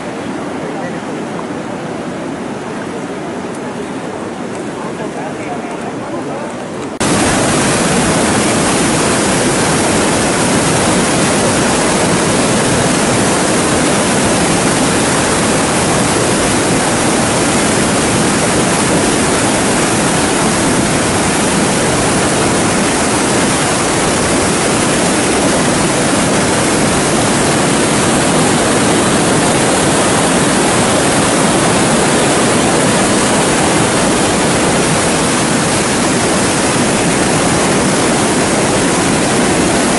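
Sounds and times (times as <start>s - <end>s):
water rushing through sluice gates: 0.0s - 39.9s.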